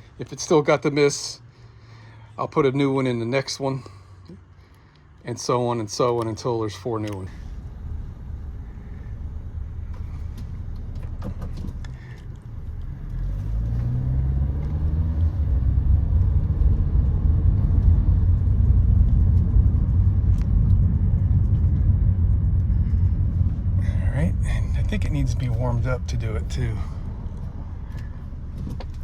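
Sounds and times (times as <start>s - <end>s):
car engine starting and running: 0.0s - 29.0s.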